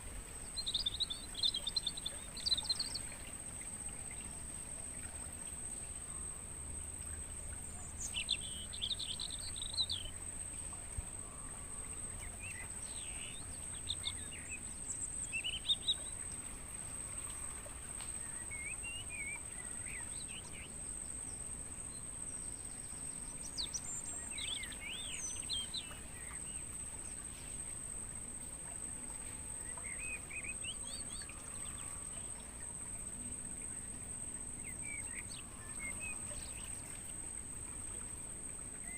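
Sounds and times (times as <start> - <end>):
crickets chirping chorus: 0.0 - 38.9
songbirds chirping: 0.0 - 38.9.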